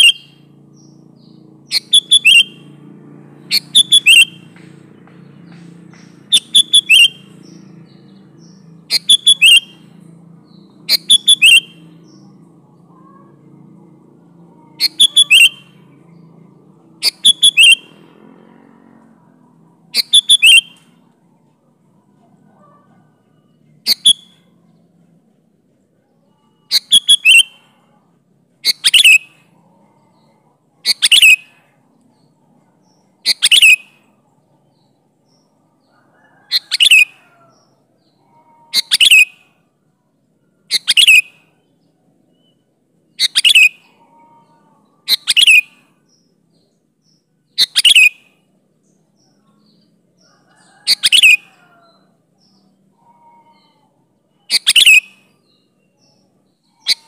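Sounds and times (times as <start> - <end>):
bird calls sweeping downward: 0.0 - 2.8, 3.4 - 13.4, 14.4 - 16.2, 16.8 - 18.2, 19.8 - 21.1, 23.8 - 24.5, 26.2 - 27.9, 28.6 - 34.1, 34.7 - 39.7, 40.6 - 57.0.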